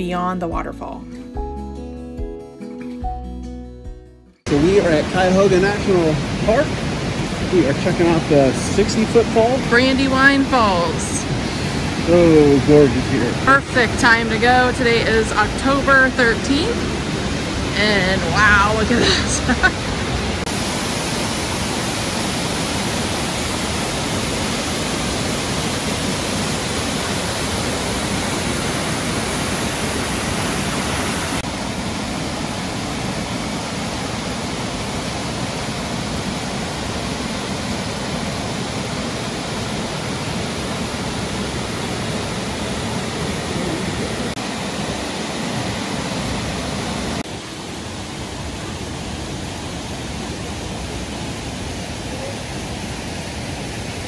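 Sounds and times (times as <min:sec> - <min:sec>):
waterfall rushing: 0:04.5 - 0:54.0.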